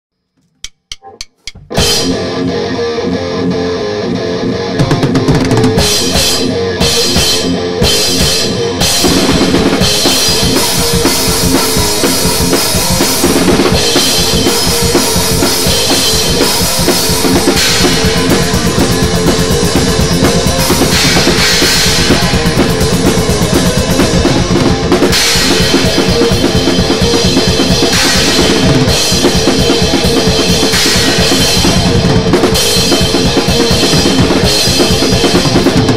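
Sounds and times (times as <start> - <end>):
thrash metal band playing: 0.8 - 35.9.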